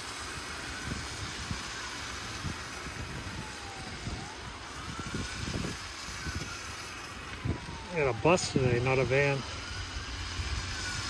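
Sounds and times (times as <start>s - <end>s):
faint siren wailing: 0.0s - 11.0s
vehicles passing on wet road: 0.0s - 11.0s
wind buffeting microphone: 0.6s - 11.0s.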